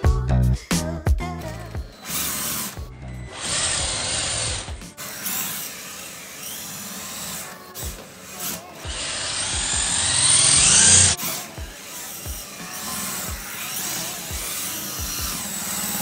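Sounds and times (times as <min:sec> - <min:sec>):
electric motor and fan whirr: 0:01.4 - 0:16.0.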